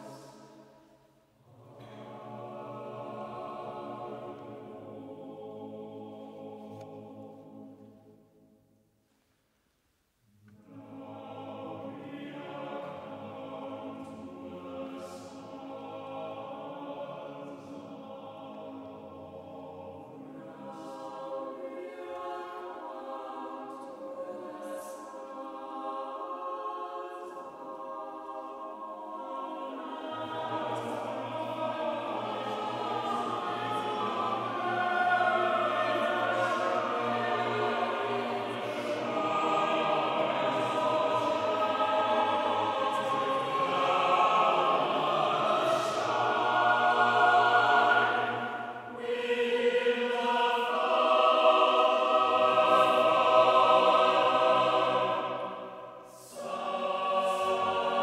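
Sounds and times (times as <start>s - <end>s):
choir singing unaccompanied: 0.0s - 8.2s, 10.6s - 58.0s
low bass voices singing: 1.4s - 7.9s, 10.6s - 58.0s.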